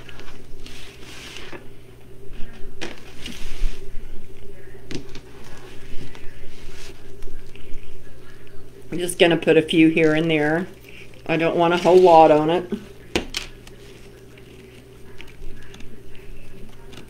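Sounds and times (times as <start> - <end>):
low steady hum: 0.0 - 17.0
rustling of craft materials: 0.0 - 17.0.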